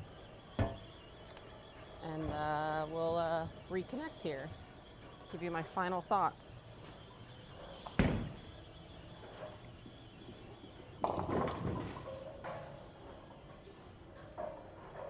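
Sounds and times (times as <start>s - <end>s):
bowling alley background hum: 0.0s - 15.0s.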